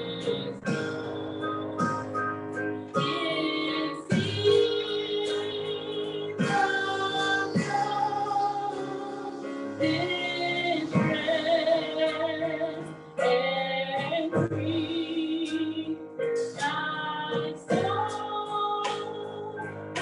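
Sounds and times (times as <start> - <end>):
woman singing a hymn: 0.0 - 0.7, 3.0 - 20.0
instrumental accompaniment: 0.0 - 20.0.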